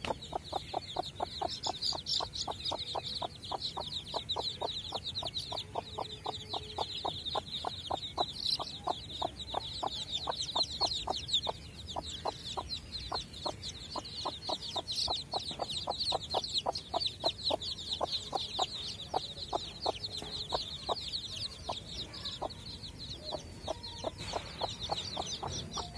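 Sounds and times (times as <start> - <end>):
chicks peeping: 0.0 - 25.9
hen clucking: 0.0 - 25.9.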